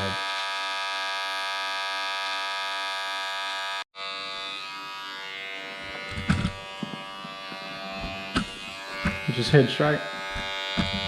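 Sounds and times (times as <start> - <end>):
electric hair trimmer buzzing: 0.0 - 11.0.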